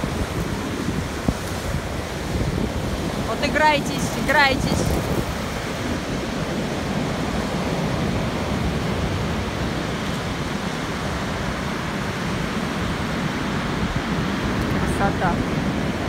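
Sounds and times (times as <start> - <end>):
surf breaking on shore: 0.0 - 16.0.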